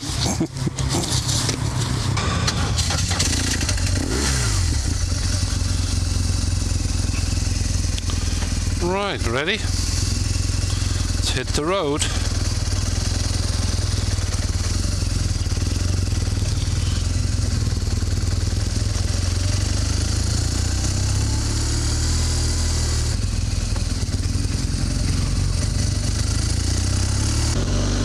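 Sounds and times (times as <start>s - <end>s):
motorcycle engine pulling away: 0.0s - 28.0s.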